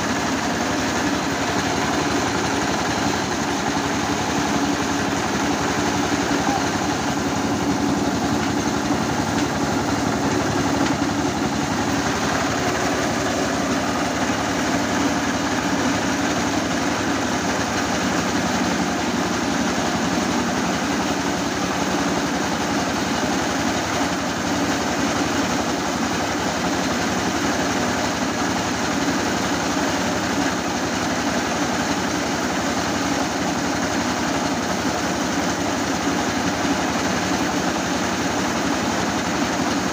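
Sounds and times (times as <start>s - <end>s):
rice huller milling: 0.0s - 39.9s
tractor engine running: 0.0s - 39.9s.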